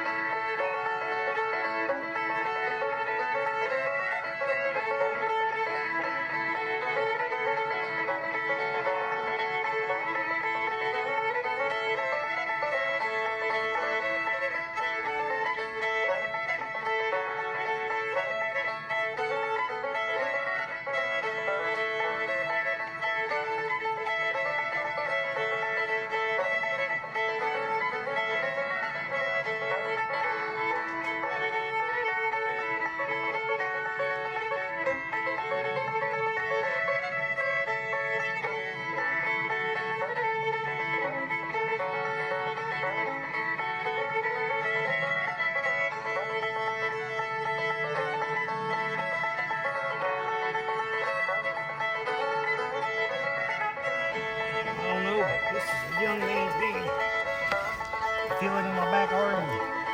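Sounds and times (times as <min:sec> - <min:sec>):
bluegrass banjo music: 0:00.0 - 0:59.9.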